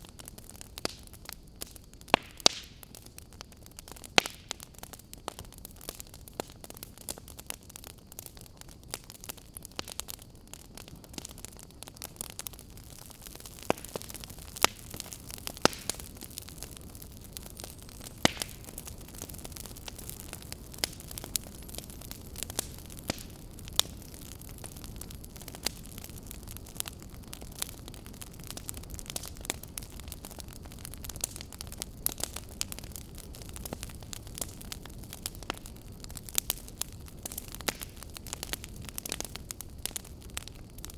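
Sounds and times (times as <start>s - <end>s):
firewood crackling: 0.0s - 40.9s
flames rumbling: 0.0s - 40.9s.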